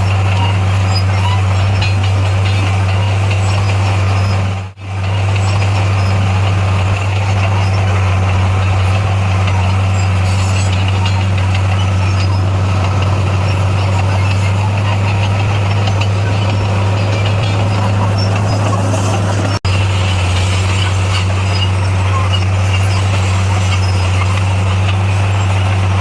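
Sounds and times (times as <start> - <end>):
bulldozer diesel engine droning: 0.0 - 26.0.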